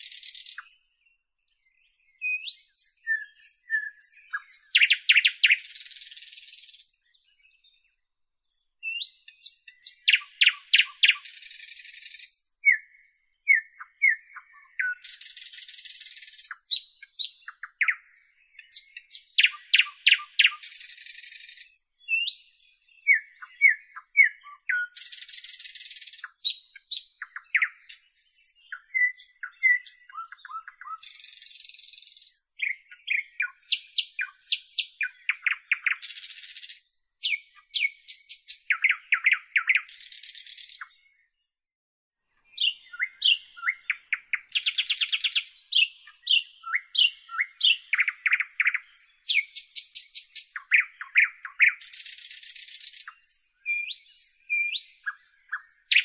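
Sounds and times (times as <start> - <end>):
nightingale singing: 0.0 - 41.5, 42.3 - 56.0.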